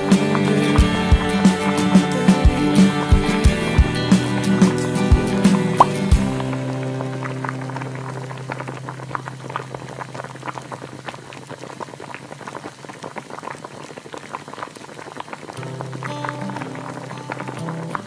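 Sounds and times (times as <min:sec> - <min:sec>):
soup bubbling: 0:00.0 - 0:18.0.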